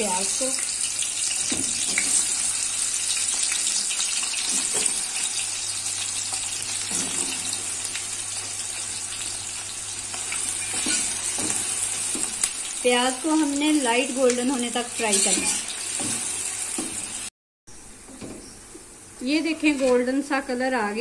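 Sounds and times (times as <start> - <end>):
onions sizzling in hot oil: 0.0 - 17.3.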